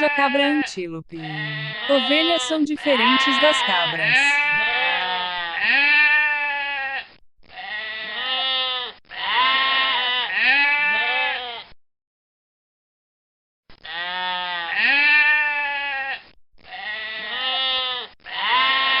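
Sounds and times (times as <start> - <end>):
sheep and goats bleating: 0.0 - 11.7, 13.8 - 19.0.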